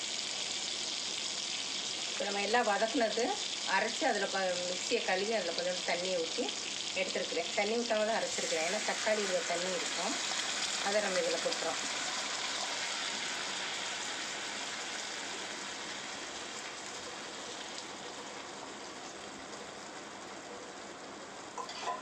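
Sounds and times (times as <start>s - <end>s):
paste sizzling in hot fat: 0.0s - 20.4s.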